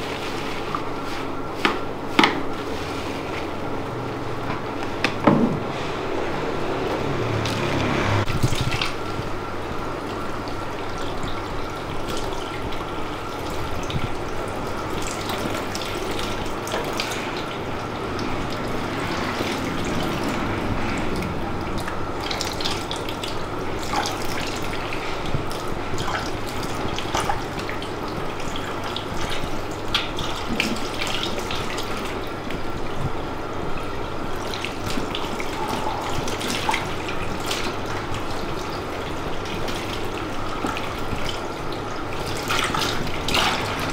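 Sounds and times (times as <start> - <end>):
small water splashes: 7.2 - 43.9.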